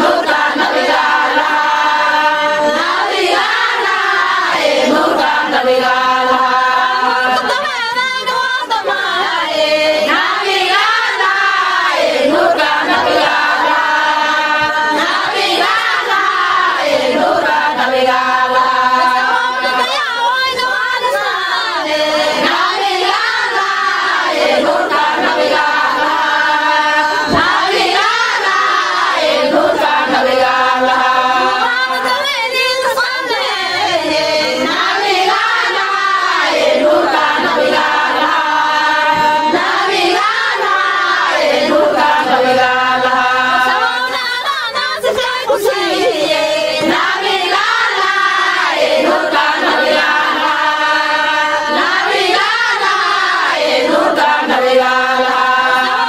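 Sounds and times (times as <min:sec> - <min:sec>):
group of voices singing: 0:00.0 - 0:56.0.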